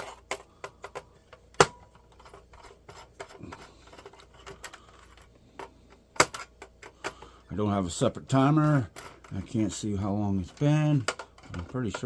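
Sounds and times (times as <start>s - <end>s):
laptop parts clicking and clattering: 0.0s - 7.5s, 8.1s - 12.0s.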